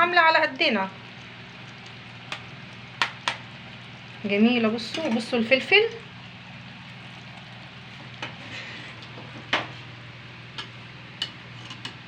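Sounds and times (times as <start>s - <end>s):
faint hum and hiss: 0.0s - 12.0s.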